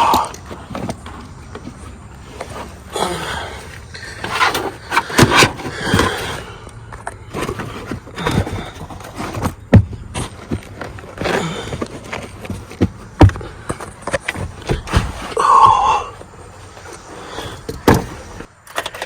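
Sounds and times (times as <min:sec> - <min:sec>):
tools knocking and scraping: 0:00.0 - 0:19.0.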